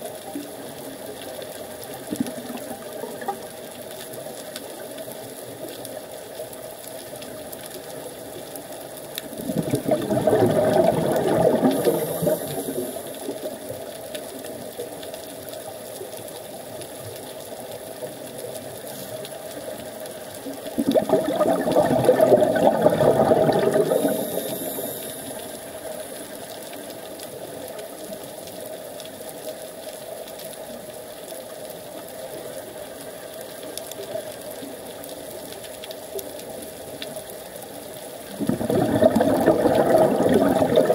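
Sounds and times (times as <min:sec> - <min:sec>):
exhaled bubbles gurgling underwater: 0:00.0 - 0:29.5, 0:30.2 - 0:40.9
steady underwater hum: 0:00.0 - 0:40.9.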